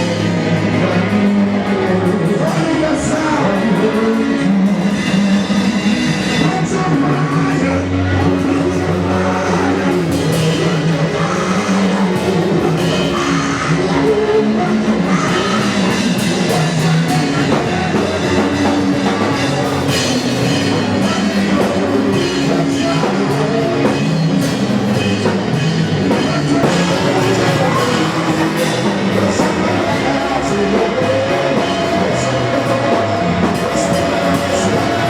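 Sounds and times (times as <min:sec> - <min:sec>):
live band playing: 0:00.0 - 0:35.0.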